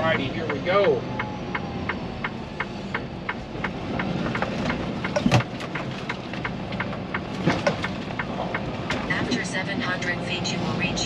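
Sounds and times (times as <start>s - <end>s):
truck engine and road noise: 0.0s - 11.0s
turn signal clicking: 0.2s - 10.2s.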